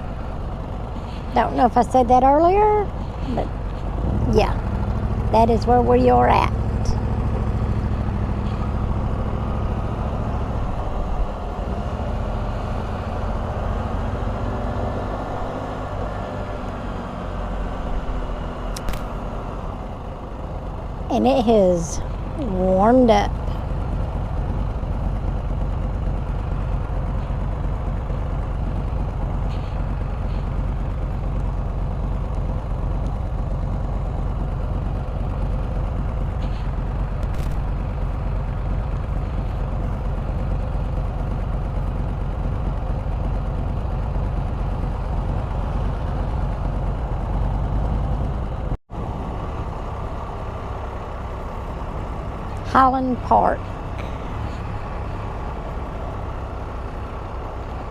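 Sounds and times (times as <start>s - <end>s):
motorcycle engine rumble: 0.0s - 57.9s
road and wind noise: 0.0s - 57.9s.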